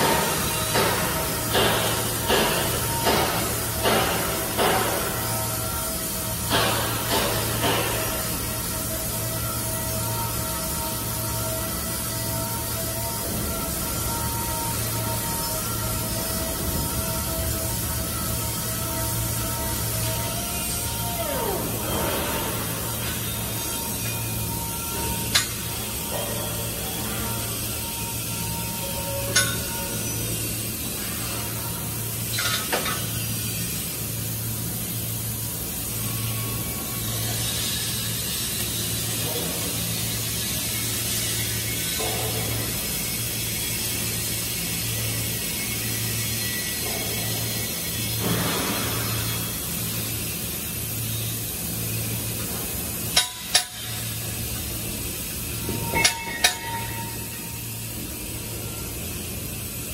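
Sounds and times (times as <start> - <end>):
arc welding hiss: 0.0 - 59.9
low hum of workshop machinery: 0.0 - 59.9.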